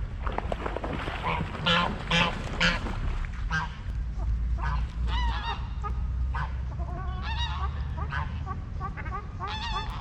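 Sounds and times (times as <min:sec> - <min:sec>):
steady low rumble: 0:00.0 - 0:10.0
waterfowl honking and calling: 0:01.2 - 0:02.9, 0:03.5 - 0:10.0.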